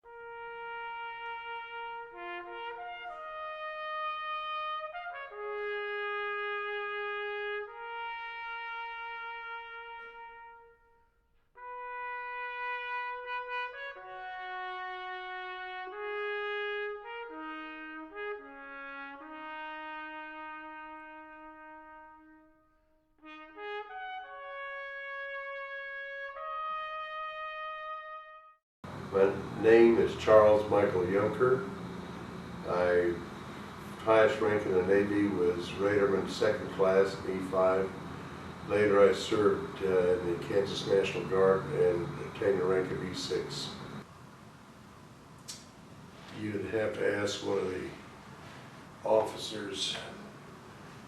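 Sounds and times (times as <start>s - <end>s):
trumpet-led brass music: 0.0s - 44.1s.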